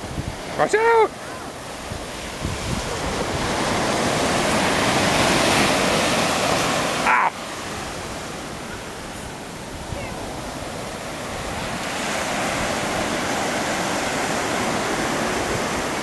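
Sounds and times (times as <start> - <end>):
ocean surf washing up beach: 0.0 - 16.0.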